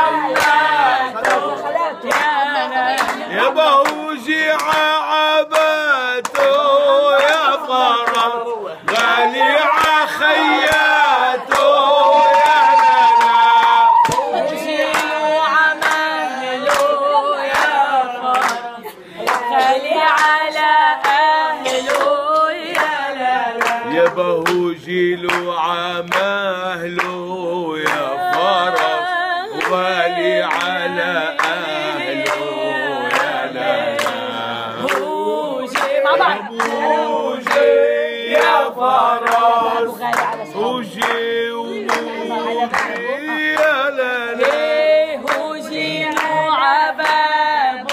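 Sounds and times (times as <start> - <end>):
hand-clapping to the beat: 0.0 - 47.9
woman and man singing: 0.0 - 47.9.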